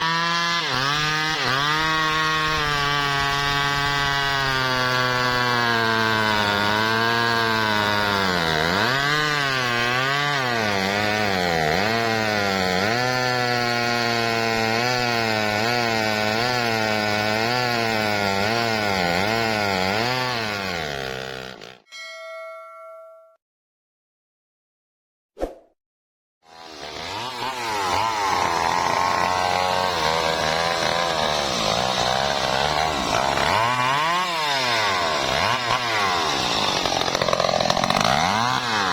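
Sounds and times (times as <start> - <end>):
chainsaw cutting wood: 0.0 - 21.9, 26.4 - 38.9.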